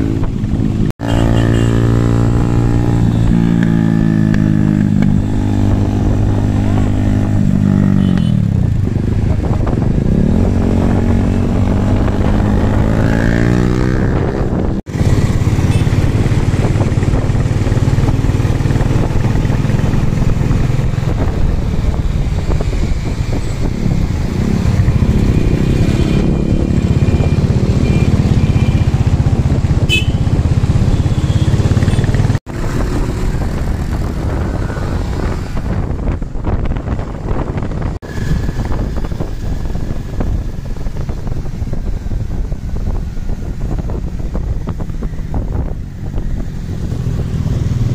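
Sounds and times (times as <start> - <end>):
motorcycle engine revving: 0.0 - 47.9
wind on microphone: 0.0 - 47.9.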